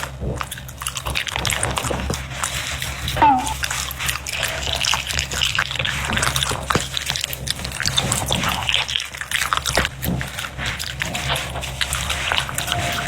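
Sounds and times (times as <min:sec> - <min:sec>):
dog chewing and slurping: 0:00.0 - 0:13.0.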